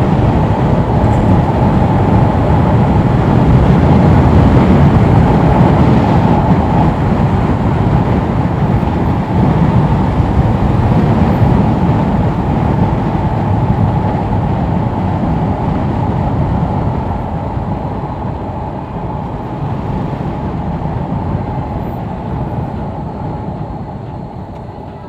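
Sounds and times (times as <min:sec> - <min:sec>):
motorcycle road noise: 0:00.0 - 0:25.0
wind rush: 0:00.0 - 0:25.0.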